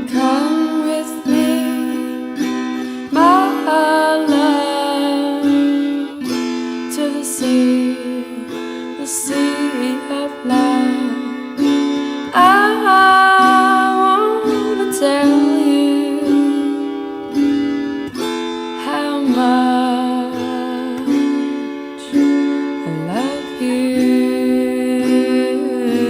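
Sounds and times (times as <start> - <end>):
plucked string instrument music: 0.0 - 26.0.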